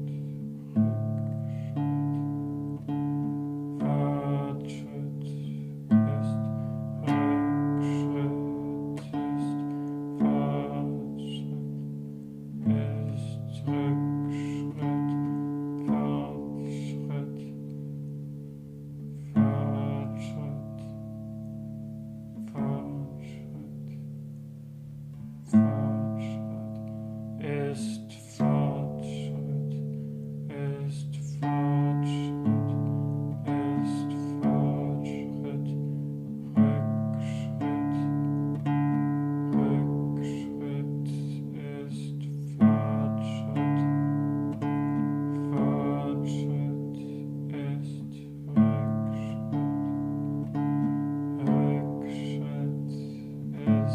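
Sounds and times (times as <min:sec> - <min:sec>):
classical guitar chords strummed: 0:00.0 - 0:53.9.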